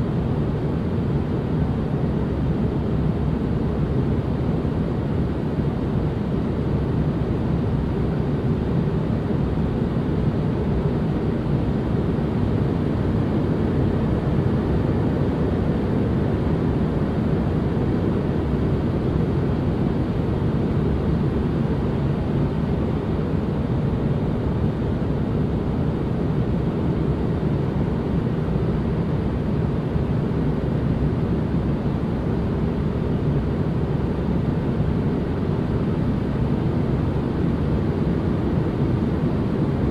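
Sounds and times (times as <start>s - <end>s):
deep rumbling ambient noise: 0.0s - 39.9s.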